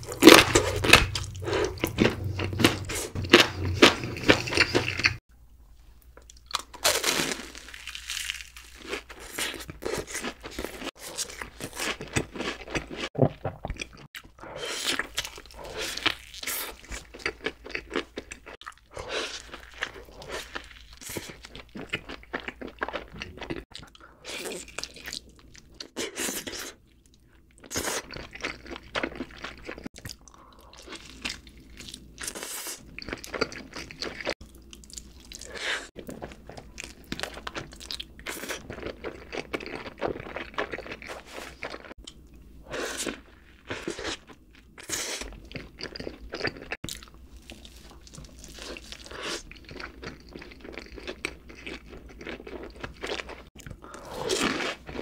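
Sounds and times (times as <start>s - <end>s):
chewing and biting food: 0.0s - 5.2s, 6.3s - 42.3s, 43.0s - 55.0s.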